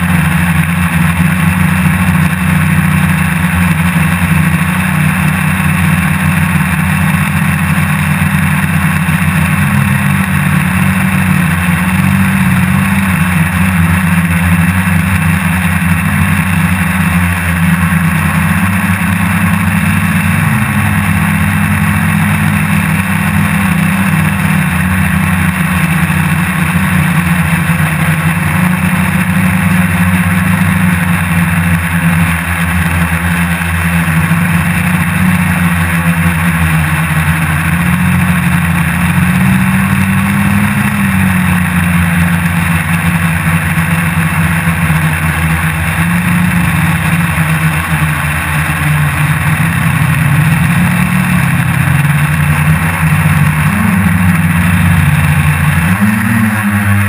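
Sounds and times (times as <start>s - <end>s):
drone motors and propellers humming: 0.0s - 57.0s.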